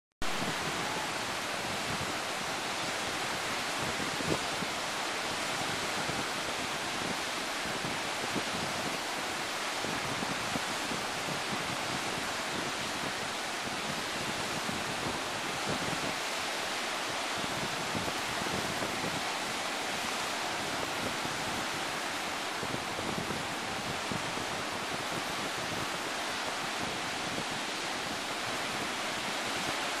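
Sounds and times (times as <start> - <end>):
wind on microphone: 0.2 - 30.0.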